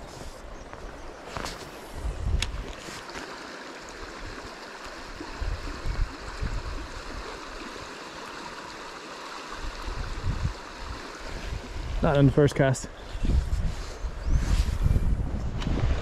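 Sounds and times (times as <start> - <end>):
river flowing and rippling: 0.0 - 16.0.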